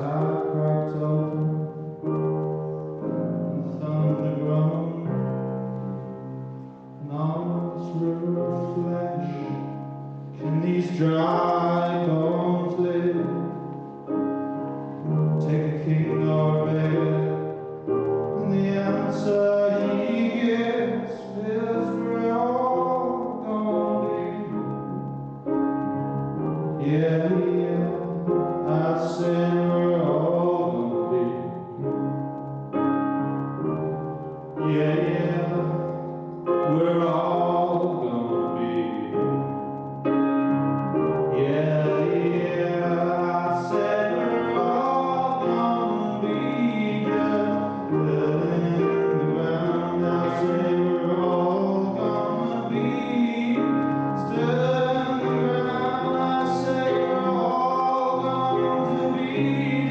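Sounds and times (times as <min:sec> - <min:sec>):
live singing with instruments: 0:00.0 - 0:59.9.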